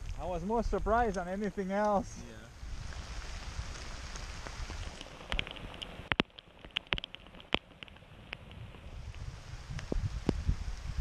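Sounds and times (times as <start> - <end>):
heavy rain on lake: 0.0 - 11.0.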